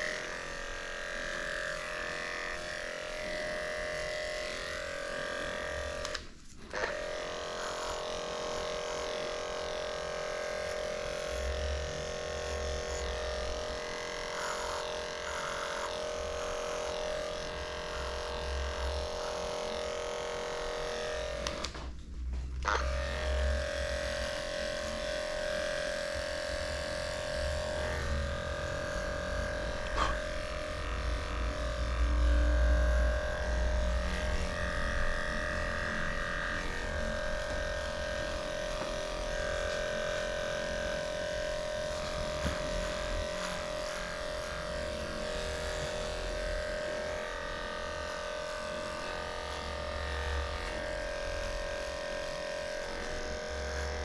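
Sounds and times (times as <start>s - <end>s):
electric clippers humming: 0.0s - 54.0s.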